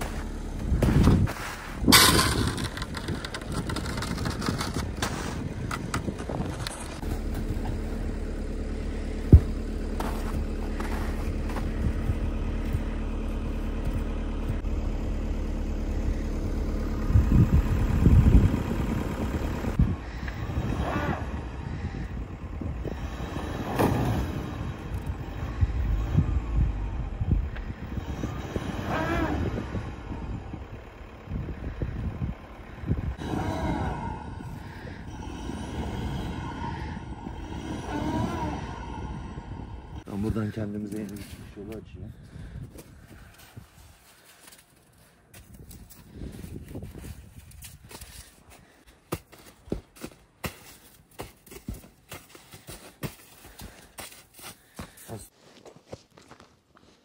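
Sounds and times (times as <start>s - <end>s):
truck engine running: 0.0s - 55.3s.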